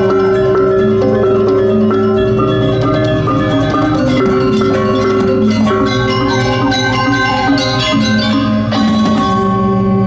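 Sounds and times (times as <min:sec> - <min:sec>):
gamelan ensemble playing: 0:00.0 - 0:10.0.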